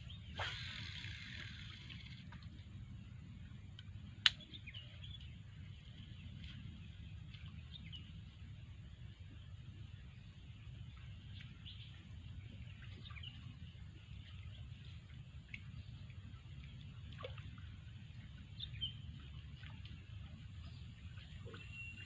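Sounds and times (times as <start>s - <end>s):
faint high hum: 0.0s - 22.0s
steady low rumble: 0.0s - 22.0s.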